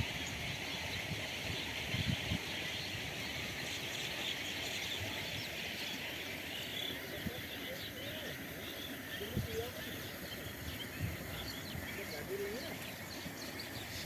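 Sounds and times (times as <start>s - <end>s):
outdoor ambience hiss: 0.0s - 14.0s
small birds chirping: 0.2s - 14.0s.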